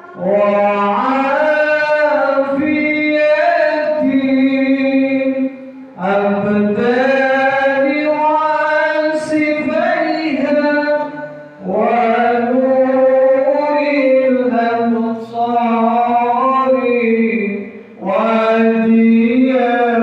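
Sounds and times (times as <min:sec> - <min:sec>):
man singing devotional chant: 0:00.0 - 0:20.0.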